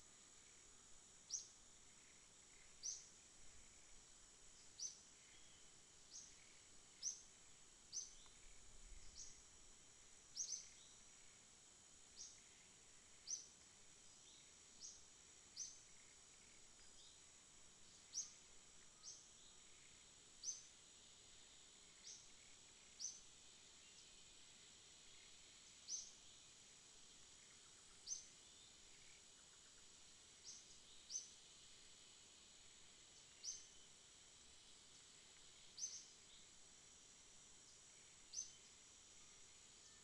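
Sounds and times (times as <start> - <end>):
faint insect trill: 0.0 - 40.0
sharp high insect chirps: 0.1 - 40.0.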